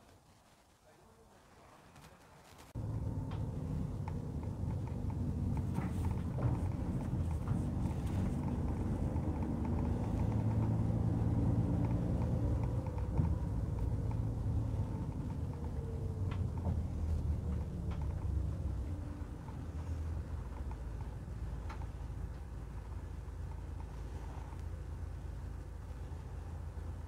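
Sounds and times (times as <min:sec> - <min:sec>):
light rattles: 0:02.6 - 0:27.0
road rumble: 0:02.6 - 0:27.0
vehicle engine hum: 0:02.8 - 0:27.0.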